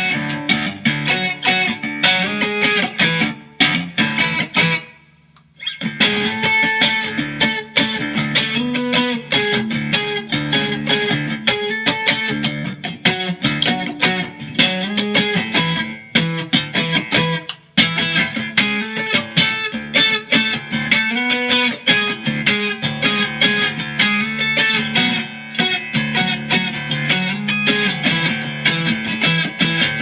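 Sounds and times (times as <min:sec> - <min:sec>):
electric guitar riffs: 0:00.0 - 0:30.0.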